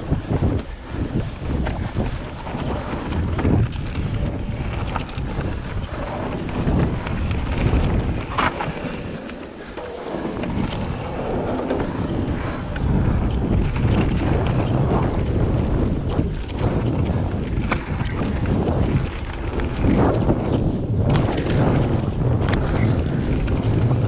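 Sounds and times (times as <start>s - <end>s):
bike rattles and knocks: 0.0s - 24.0s
tyre noise on gravel: 0.0s - 24.0s
wind buffeting microphone: 0.0s - 24.0s.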